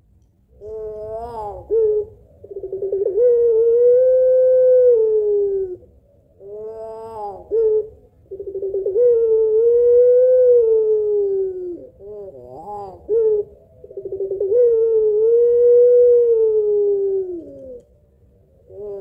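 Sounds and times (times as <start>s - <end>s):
dove cooing: 0.5s - 19.0s.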